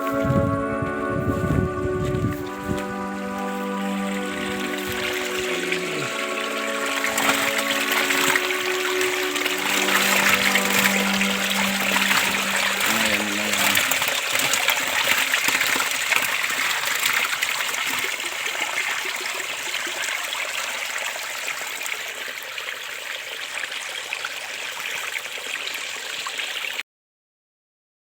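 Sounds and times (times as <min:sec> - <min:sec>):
flowing water rushing: 0:00.0 - 0:26.8.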